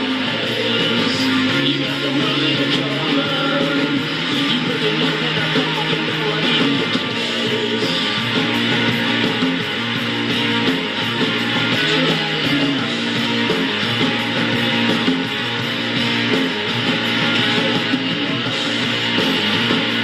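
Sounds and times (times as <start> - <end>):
rock song: 0.0 - 20.0.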